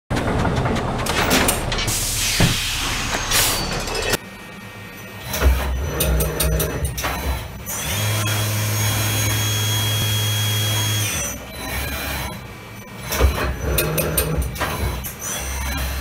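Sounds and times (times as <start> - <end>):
machine motor whine: 0.2 - 16.0.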